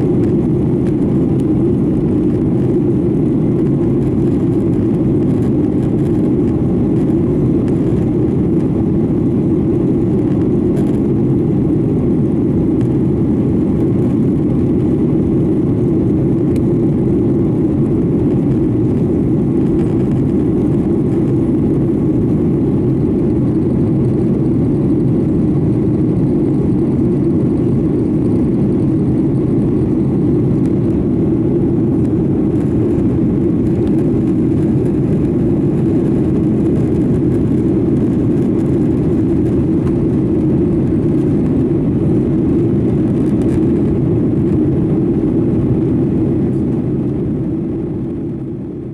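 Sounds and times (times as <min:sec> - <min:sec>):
airplane cabin drone: 0:00.0 - 0:48.9.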